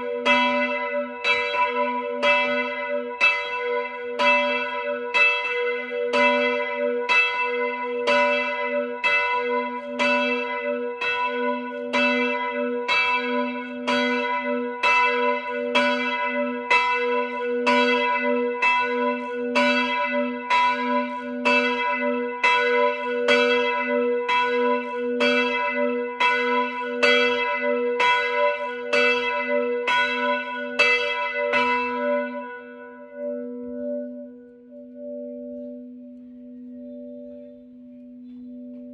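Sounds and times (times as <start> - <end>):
large church bell ringing: 0.0 - 38.9.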